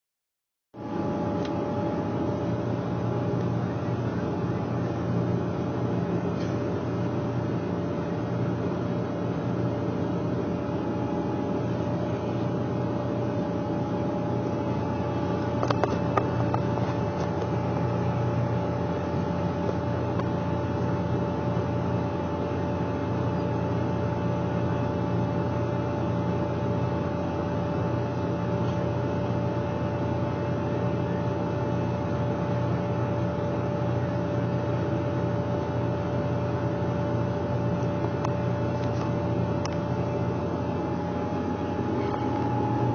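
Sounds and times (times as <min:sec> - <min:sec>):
engine drone: 0:00.8 - 0:42.9
steady whine: 0:00.8 - 0:42.9.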